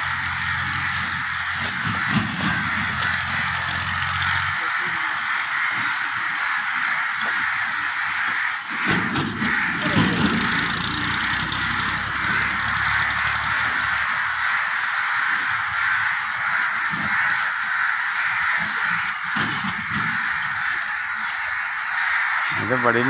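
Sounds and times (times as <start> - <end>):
crows cawing in chorus: 0.0 - 23.0.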